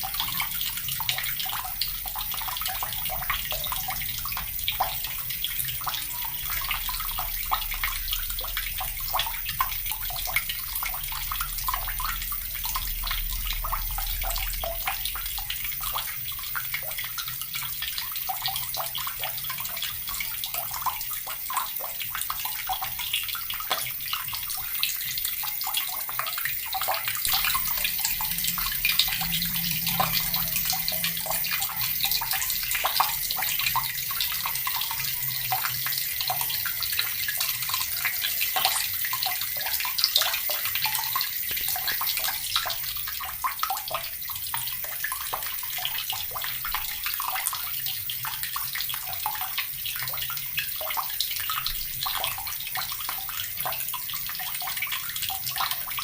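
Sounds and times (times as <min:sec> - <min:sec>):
water tap running: 0:00.0 - 0:56.0.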